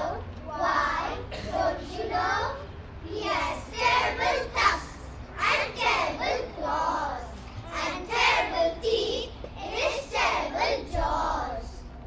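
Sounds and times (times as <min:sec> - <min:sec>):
children reciting in unison: 0:00.0 - 0:11.8.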